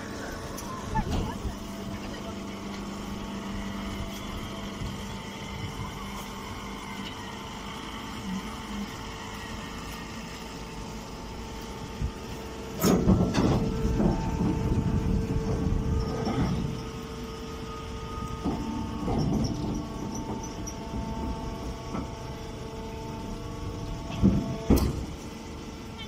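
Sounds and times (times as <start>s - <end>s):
hydraulic baling press humming: 0.0s - 26.0s.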